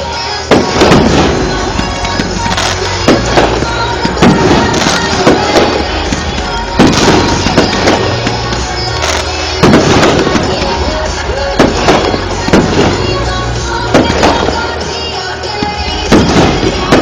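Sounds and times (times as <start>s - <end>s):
fireworks banging: 0.0s - 17.0s
music playing: 0.0s - 17.0s.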